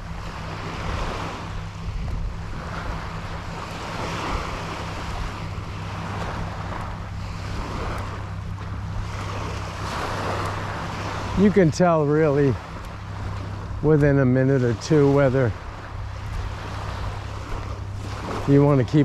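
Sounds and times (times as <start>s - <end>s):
surf washing onto beach: 0.0s - 19.0s
wind rumbling on microphone: 0.0s - 19.0s.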